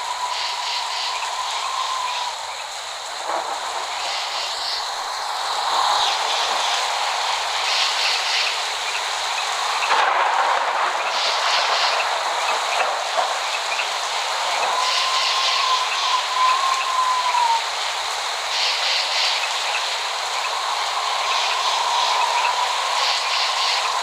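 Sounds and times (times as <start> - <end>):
rain falling steadily: 0.0 - 24.0.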